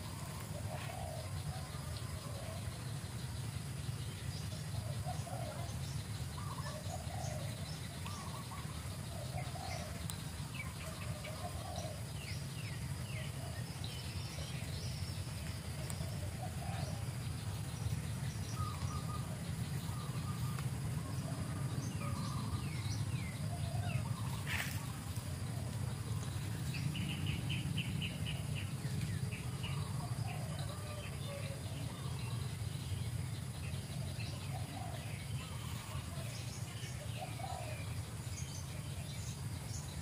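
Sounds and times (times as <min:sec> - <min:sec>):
birds chirping: 0:00.0 - 0:40.0
low background rumble: 0:00.0 - 0:40.0.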